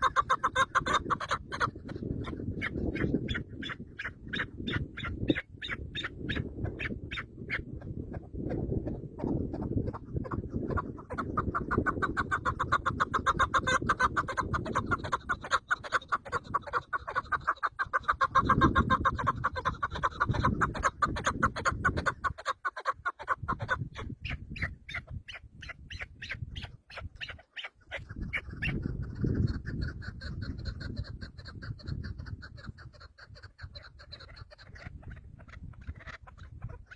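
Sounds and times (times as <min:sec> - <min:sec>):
bird clucking calls: 0:00.0 - 0:36.9.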